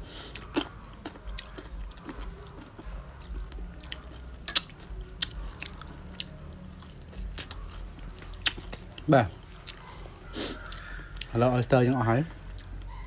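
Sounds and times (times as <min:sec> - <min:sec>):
wet chewing: 0:00.2 - 0:11.5, 0:12.2 - 0:13.0.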